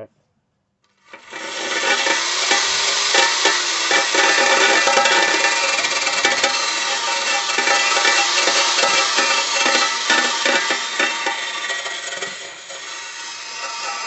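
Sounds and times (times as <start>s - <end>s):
wire brush scrubbing steel: 1.1s - 14.0s.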